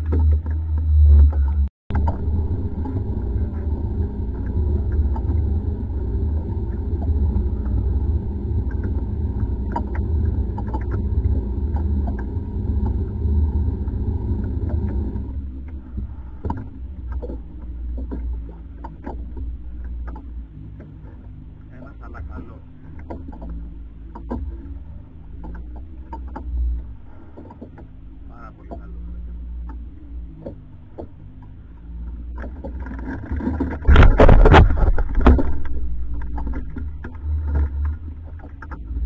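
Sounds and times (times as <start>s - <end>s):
boat engine rumbling: 0.0s - 39.0s.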